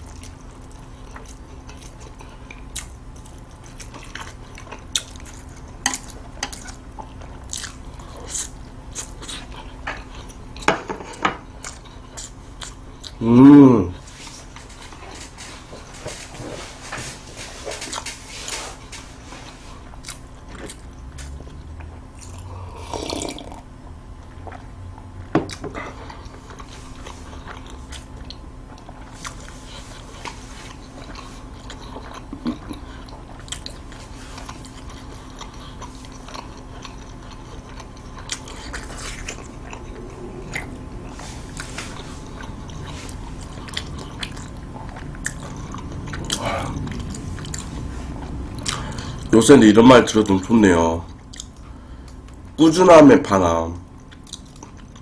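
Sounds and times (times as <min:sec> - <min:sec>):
person chewing food: 0:00.0 - 0:49.4, 0:51.0 - 0:52.6, 0:53.8 - 0:55.0
faint steady hum: 0:00.0 - 0:55.0.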